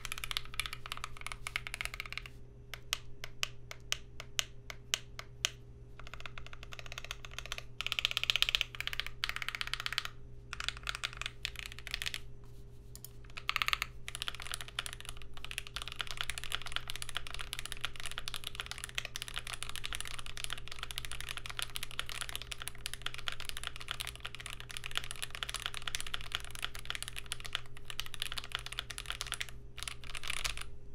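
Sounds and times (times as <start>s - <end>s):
fast mechanical keyboard typing: 0.0s - 3.9s, 6.0s - 12.2s, 13.0s - 30.7s.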